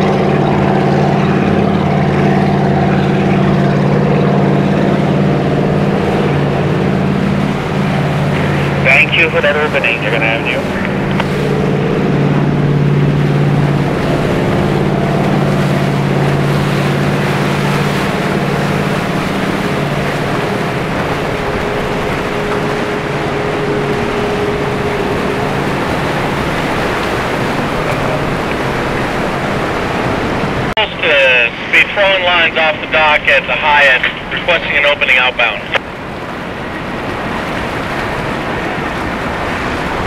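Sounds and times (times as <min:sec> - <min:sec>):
boat engines droning: 0:00.0 - 0:40.0
wake churning water: 0:00.0 - 0:40.0.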